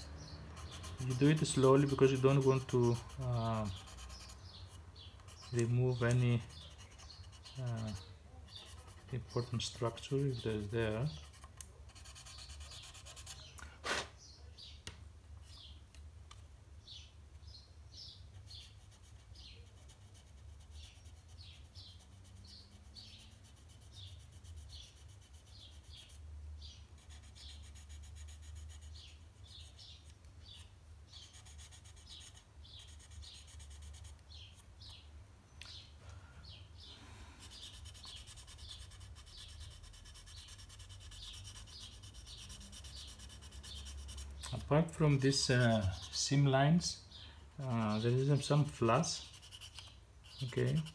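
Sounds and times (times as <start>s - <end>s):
sanding strokes on plastic: 0.5s - 14.1s, 18.5s - 26.2s, 27.0s - 34.6s, 37.4s - 46.3s, 47.6s - 50.9s.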